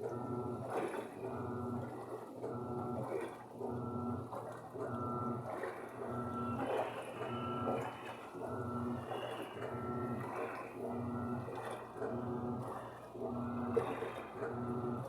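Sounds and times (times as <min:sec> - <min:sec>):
washing machine motor humming: 0:00.0 - 0:15.0
water churning: 0:00.1 - 0:15.0.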